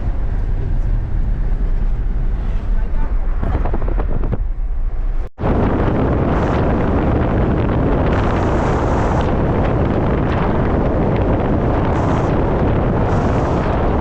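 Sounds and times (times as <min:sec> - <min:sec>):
road rumble: 0:00.0 - 0:14.0
wind buffeting microphone: 0:00.0 - 0:14.0.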